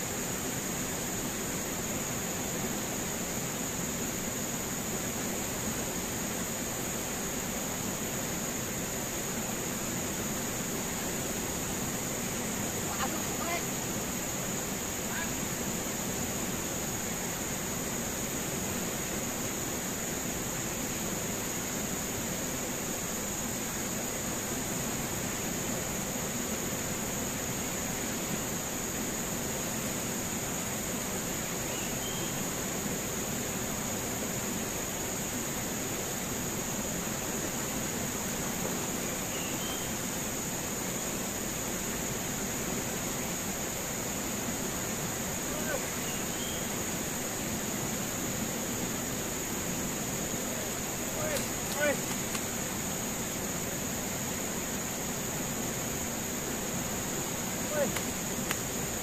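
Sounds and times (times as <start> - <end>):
river water rushing over rapids: 0.0 - 59.0.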